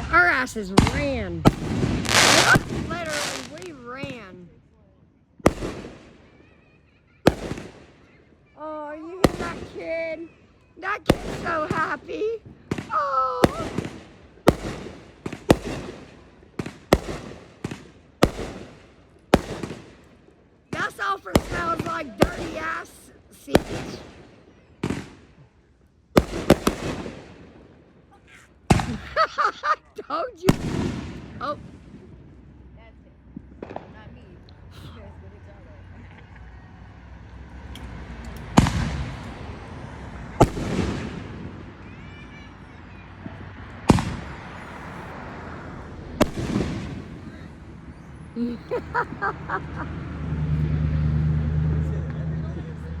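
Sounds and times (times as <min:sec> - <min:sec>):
fireworks bangs: 0:00.0 - 0:04.6, 0:05.4 - 0:34.9, 0:37.9 - 0:50.8.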